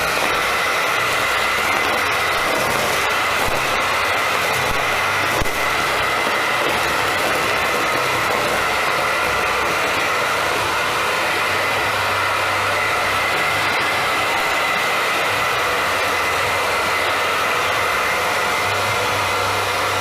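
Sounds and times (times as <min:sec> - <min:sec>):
vacuum cleaner whining: 0:00.0 - 0:20.0.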